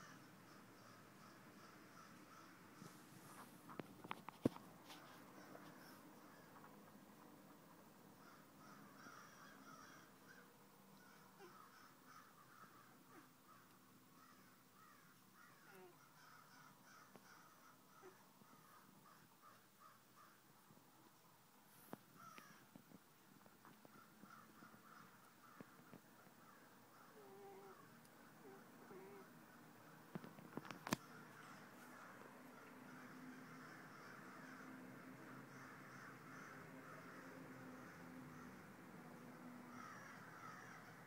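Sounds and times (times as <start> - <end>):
crows cawing: 0.0 - 3.4, 4.9 - 6.8, 8.2 - 20.5, 22.1 - 22.8, 23.6 - 29.4, 30.6 - 38.8, 39.4 - 41.0.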